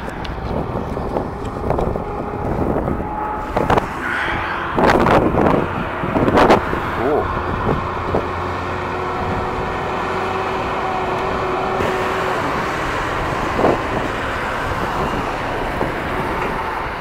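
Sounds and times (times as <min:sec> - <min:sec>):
steady traffic hum: 0:00.0 - 0:17.0
wheel loader diesel engine running: 0:00.0 - 0:17.0.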